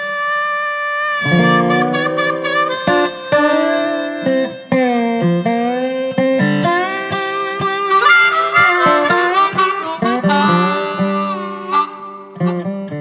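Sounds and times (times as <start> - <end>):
harmonica bending notes: 0.0 - 13.0
plucked guitar: 1.2 - 13.0.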